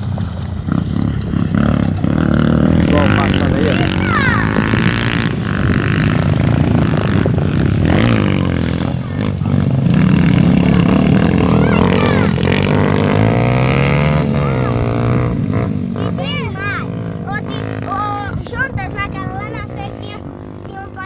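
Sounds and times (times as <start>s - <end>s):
dirt bikes revving past: 0.0s - 21.0s.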